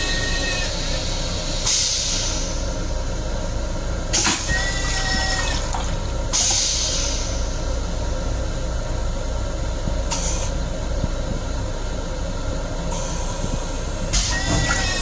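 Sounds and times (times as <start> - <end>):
train car rumble: 0.0 - 15.0.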